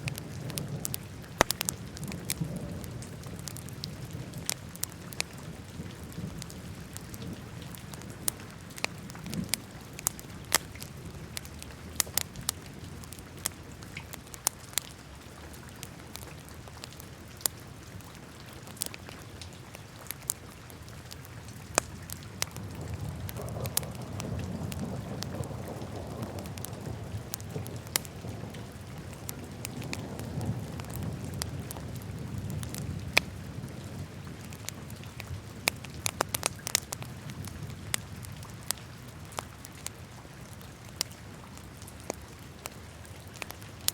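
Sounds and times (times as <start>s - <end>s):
fire crackling and popping: 0.0s - 43.9s
low rustle of flames: 0.0s - 43.9s.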